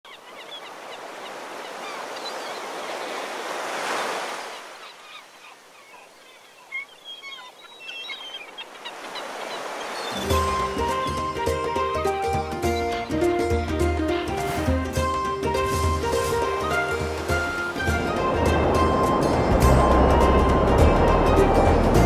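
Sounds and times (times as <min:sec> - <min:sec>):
ocean waves surging: 0:00.6 - 0:05.1, 0:08.6 - 0:22.0.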